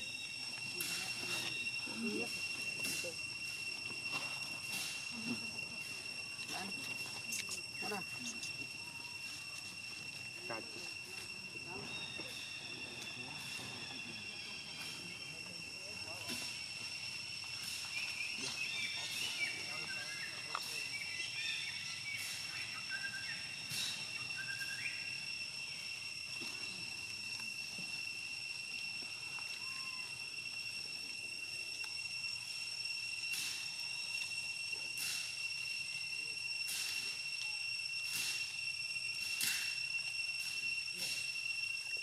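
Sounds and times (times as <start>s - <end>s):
high-pitched insect whine: 0.0s - 42.0s.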